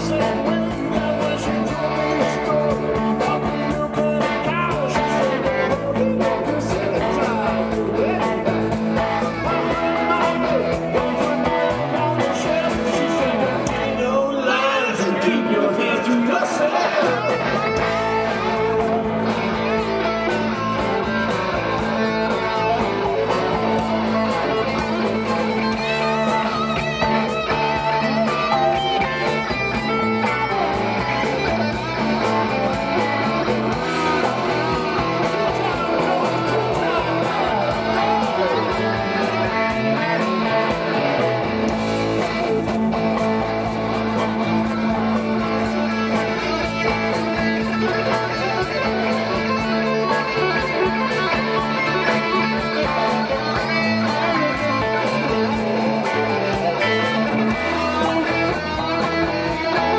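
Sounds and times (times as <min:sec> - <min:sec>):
bass: 0:00.0 - 0:59.9
drums playing steady beat: 0:00.0 - 0:59.9
electric guitar: 0:00.0 - 0:59.9.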